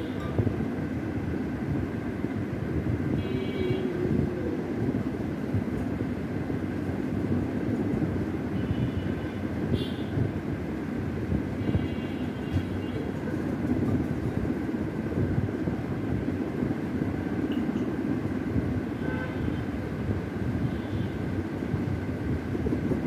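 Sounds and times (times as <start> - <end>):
low rumbling background noise: 0.0 - 23.0.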